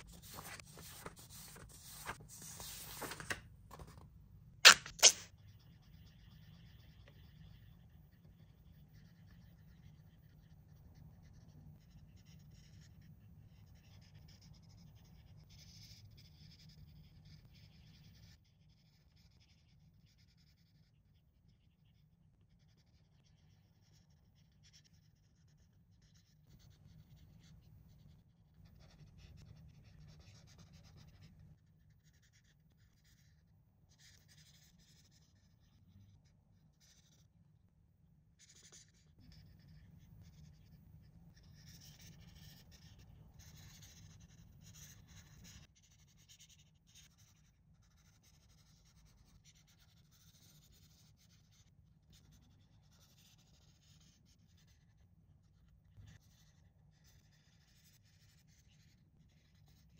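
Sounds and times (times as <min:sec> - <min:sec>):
marker scratching on paper: 0:00.0 - 0:04.0, 0:04.6 - 0:36.2, 0:36.8 - 0:37.3, 0:38.4 - 0:55.0, 0:55.9 - 0:59.9.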